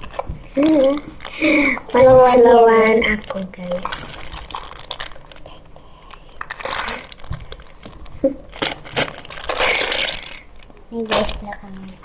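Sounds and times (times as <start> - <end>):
squishy toys crinkling: 0.0 - 12.0.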